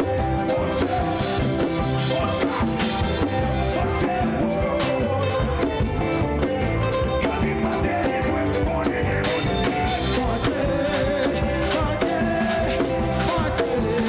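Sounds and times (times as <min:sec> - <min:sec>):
band playing gospel music: 0:00.0 - 0:14.0
steady drum beat: 0:00.0 - 0:14.0.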